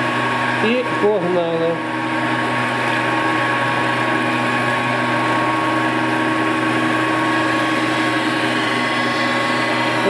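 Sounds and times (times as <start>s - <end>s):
surface grinder running: 0.0s - 10.0s.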